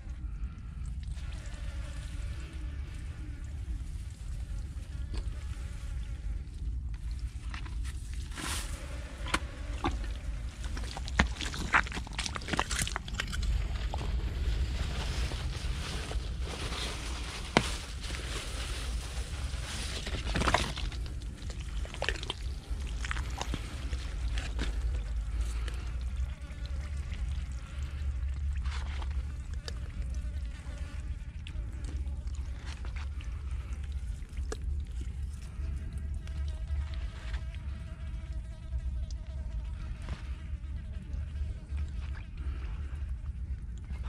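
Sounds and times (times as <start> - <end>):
wet squelches: 0.1 - 37.7.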